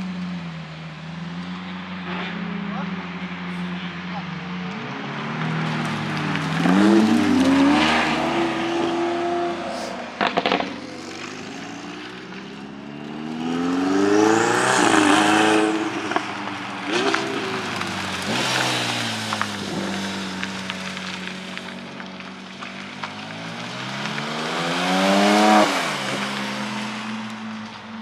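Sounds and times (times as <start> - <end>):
car engines revving: 0.0 - 28.0
exhaust pops: 4.7 - 28.0.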